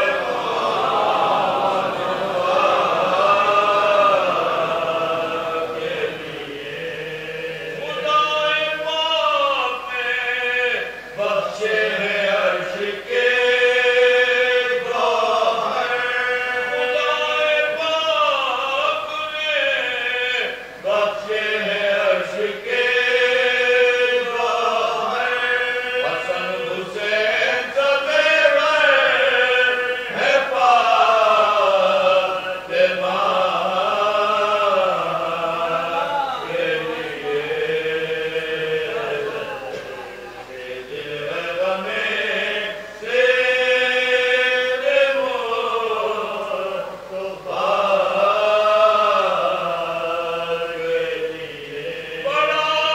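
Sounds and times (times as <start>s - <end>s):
men chanting together: 0.0s - 52.9s.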